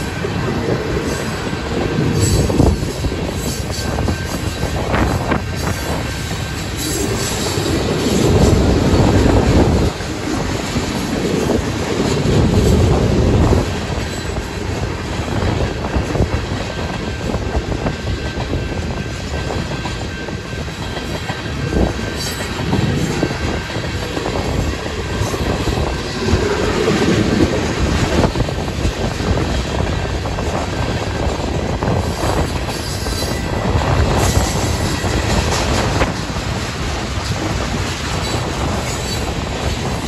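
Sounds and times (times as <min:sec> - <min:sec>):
train wheels clicking over rail joints: 0:00.0 - 0:40.0
wind buffeting microphone: 0:00.0 - 0:40.0.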